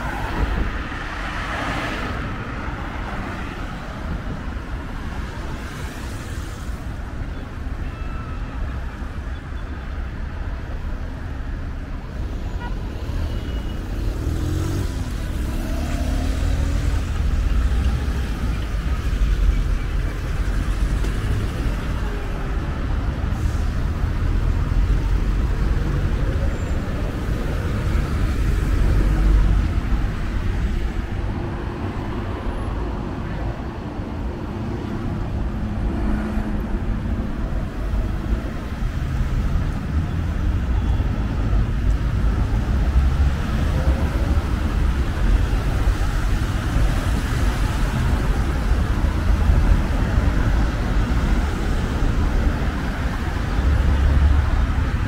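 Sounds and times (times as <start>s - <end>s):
vehicles passing: 0.0s - 7.8s, 8.5s - 55.0s.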